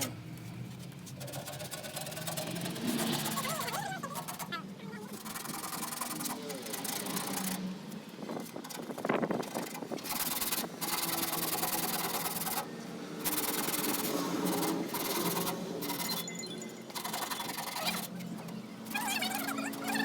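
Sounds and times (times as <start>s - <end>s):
scrubbing on rusty metal: 0.0s - 16.2s.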